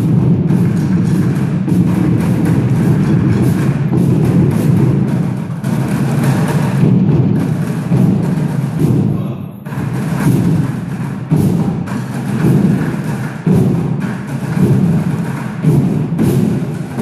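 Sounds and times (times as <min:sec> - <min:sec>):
percussion ensemble with heavy drums: 0:00.0 - 0:17.0.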